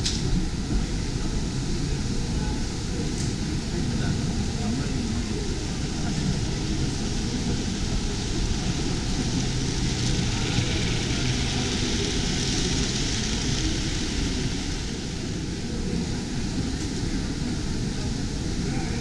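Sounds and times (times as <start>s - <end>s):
background noise wash: 0.0s - 19.0s
crowd chatter: 0.0s - 19.0s.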